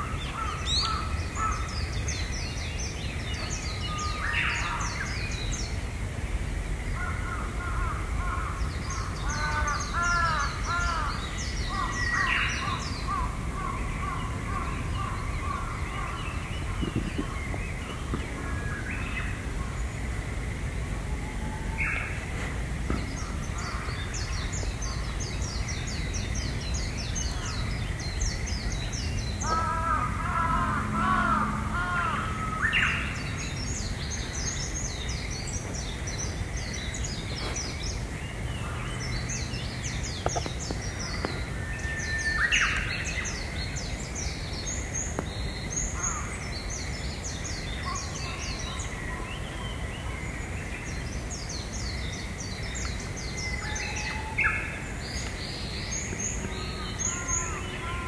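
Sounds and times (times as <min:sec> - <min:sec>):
low outdoor background hum: 0:00.0 - 0:58.0
small birds chirping and trilling: 0:00.0 - 0:58.0.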